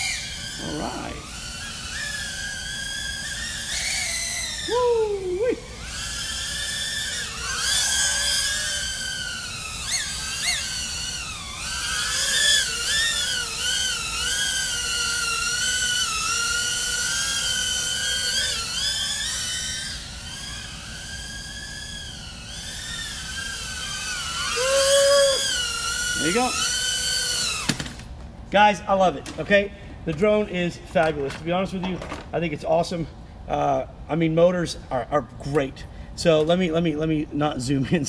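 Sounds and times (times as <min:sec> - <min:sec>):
quadcopter motors whining: 0:00.0 - 0:34.6.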